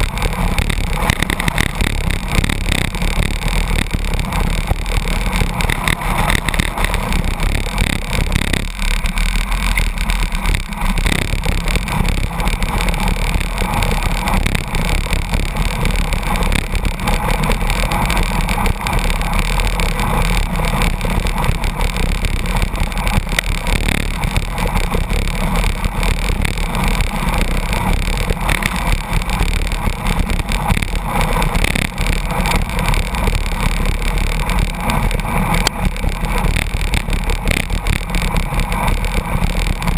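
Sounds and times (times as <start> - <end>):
truck engine and tyres: 0.0 - 39.9
wind and road noise: 0.0 - 39.9.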